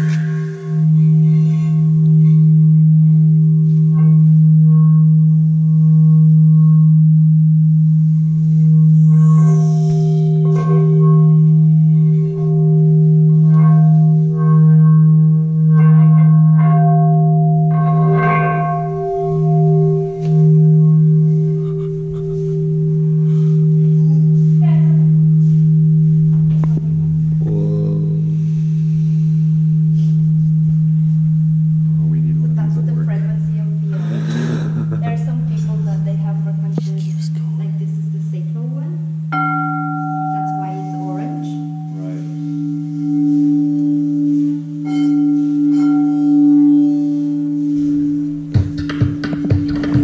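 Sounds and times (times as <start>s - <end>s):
singing bowl steady tone: 0.0s - 48.7s.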